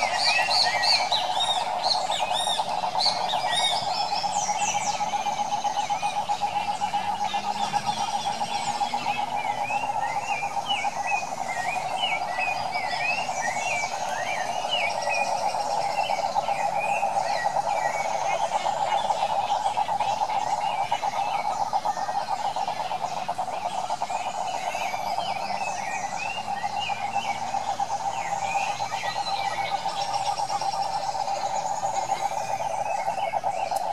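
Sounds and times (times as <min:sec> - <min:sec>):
birds chirping and whistling: 0:00.0 - 0:33.9
toad trilling: 0:00.0 - 0:33.9.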